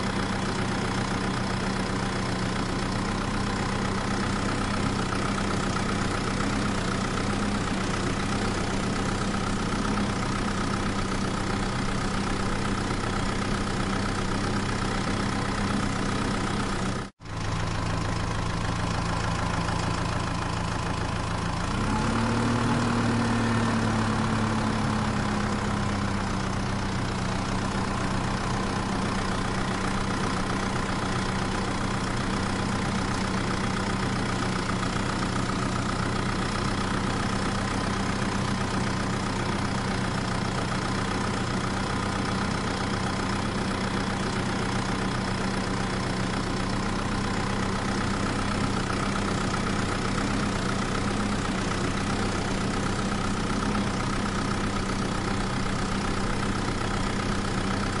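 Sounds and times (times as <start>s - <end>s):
toy engine idling hum: 0.0s - 58.0s.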